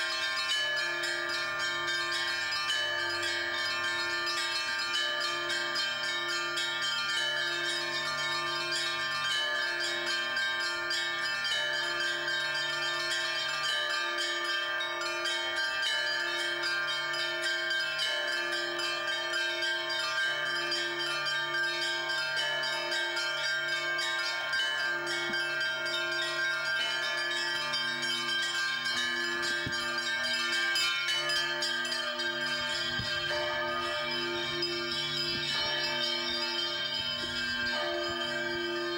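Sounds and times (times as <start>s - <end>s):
jangle of smaller bells: 0.0s - 38.9s
low church bell striking: 0.0s - 38.9s.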